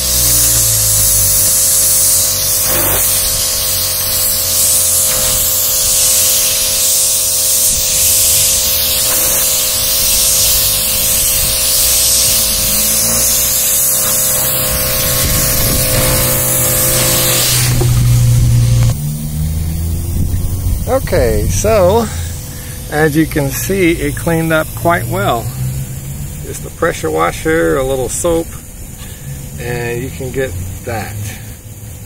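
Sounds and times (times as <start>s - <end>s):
motor and pump humming: 0.0s - 32.0s
pressure washer jet hissing: 0.0s - 32.0s.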